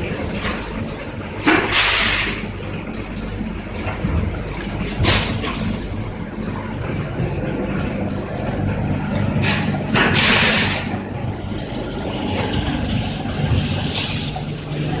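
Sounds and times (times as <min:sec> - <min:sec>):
machine mechanical hum: 0:00.0 - 0:15.0.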